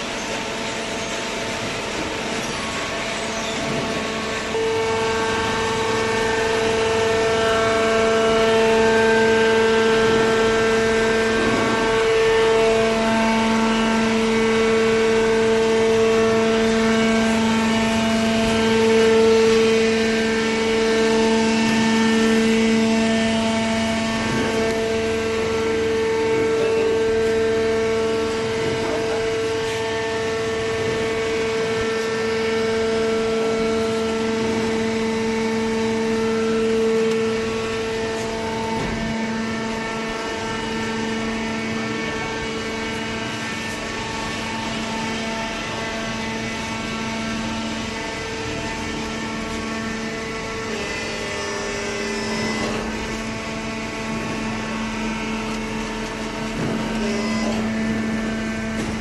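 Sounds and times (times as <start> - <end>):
hydraulic motor and pump whine: 0.0 - 59.0.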